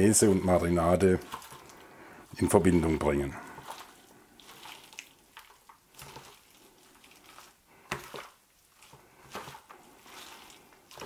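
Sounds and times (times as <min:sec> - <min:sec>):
wet squishing and rustling: 0:00.0 - 0:11.0.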